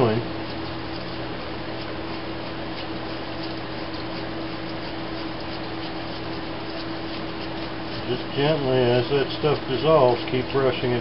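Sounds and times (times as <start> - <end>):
electric fuel pump humming: 0.0 - 11.0.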